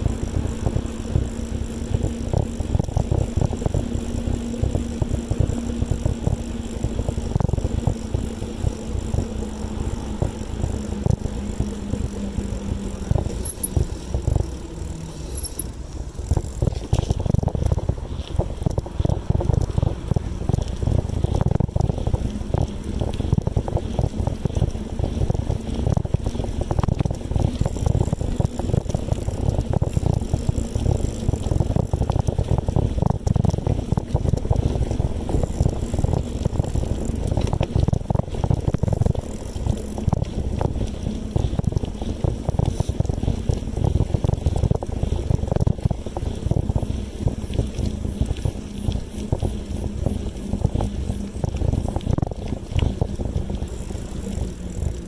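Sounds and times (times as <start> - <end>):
wind buffeting microphone: 0.0 - 15.0, 15.6 - 55.0.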